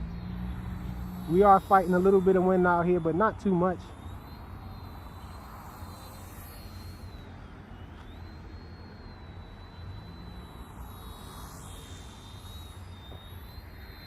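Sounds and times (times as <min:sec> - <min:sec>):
toy helicopter motor whine: 0:00.0 - 0:14.0.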